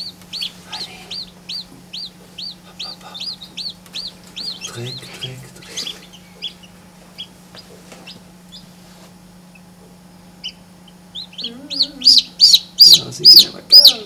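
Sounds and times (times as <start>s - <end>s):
chick peeping: 0.0s - 8.8s, 9.4s - 14.0s
low hum: 0.0s - 13.8s.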